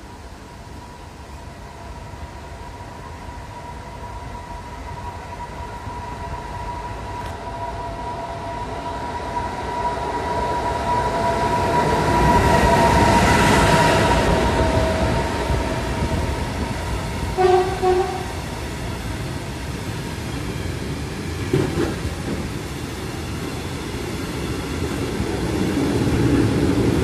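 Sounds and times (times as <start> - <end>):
train rumble: 0.0 - 27.0
locomotive high whine: 0.1 - 27.0.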